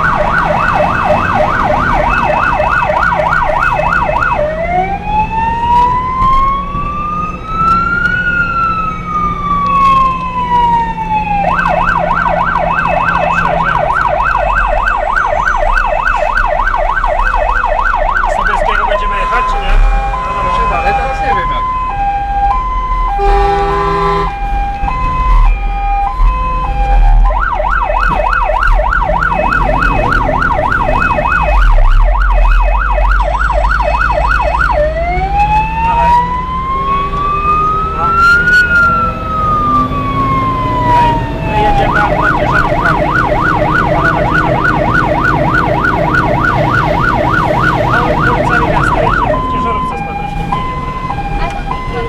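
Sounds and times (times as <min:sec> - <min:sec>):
electronic siren cycling modes: 0:00.0 - 0:52.0
truck engine droning low: 0:00.0 - 0:52.0.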